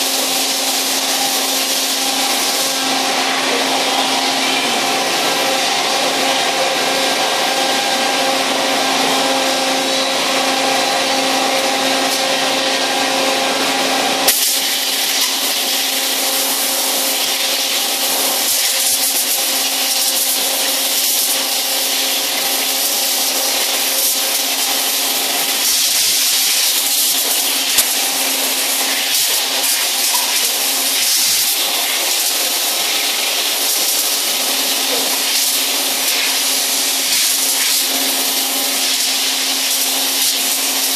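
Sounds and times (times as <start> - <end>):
machine hiss: 0.0 - 7.4, 14.2 - 40.9
machines humming with steady tones: 0.0 - 40.3.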